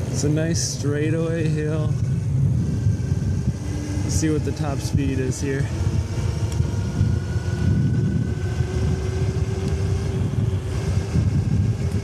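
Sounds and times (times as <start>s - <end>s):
electric motor whine: 0.0s - 12.0s
wind on microphone: 0.0s - 12.0s.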